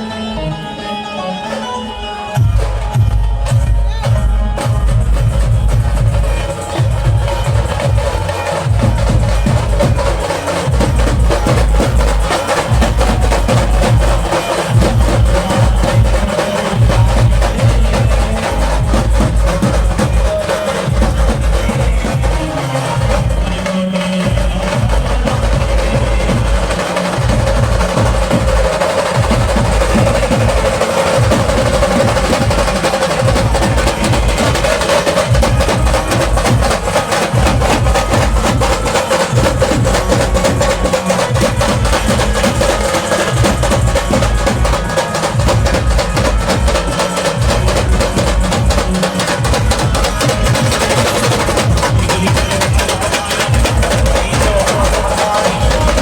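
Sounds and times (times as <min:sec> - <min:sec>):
held melody line: 0:00.0 - 0:56.0
fast dense drumming: 0:02.4 - 0:56.0
heavy bass drum: 0:02.4 - 0:56.0.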